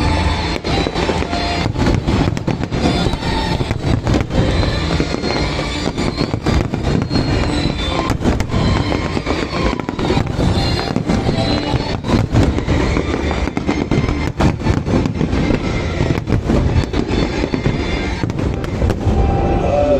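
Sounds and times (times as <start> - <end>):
fireworks bangs and crackling: 0.0 - 19.9
music soundtrack: 0.0 - 19.9.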